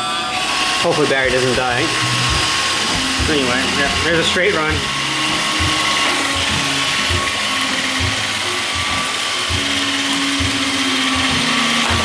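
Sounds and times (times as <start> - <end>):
robot vacuum motors whirring: 0.0 - 12.0.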